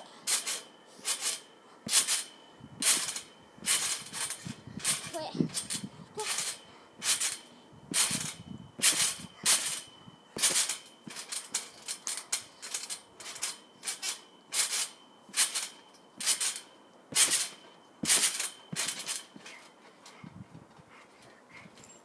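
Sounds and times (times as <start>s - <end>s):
trampoline springs bouncing: 0.0s - 22.0s.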